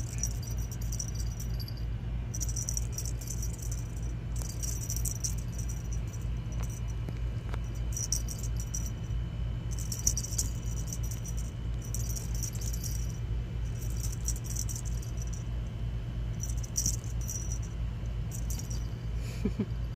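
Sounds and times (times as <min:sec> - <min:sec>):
jingling rattle: 0:00.0 - 0:19.2.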